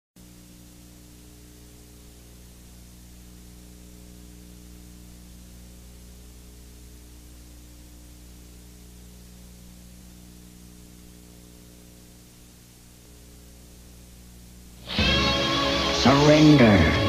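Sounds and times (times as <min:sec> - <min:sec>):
low electrical hum: 0:00.2 - 0:17.0
videotape hiss: 0:00.2 - 0:17.0.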